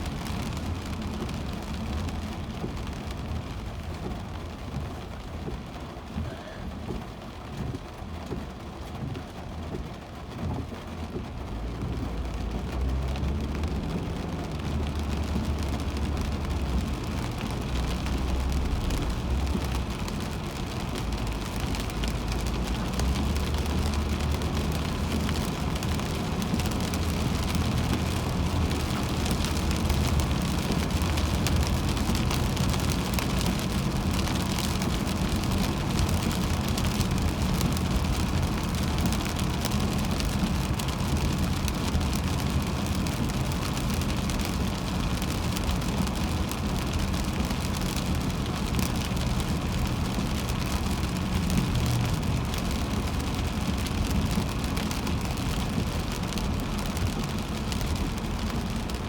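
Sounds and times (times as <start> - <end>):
heavy rain on car: 0.0 - 59.0
low road rumble: 0.0 - 59.0
tyres on wet road: 0.0 - 59.0.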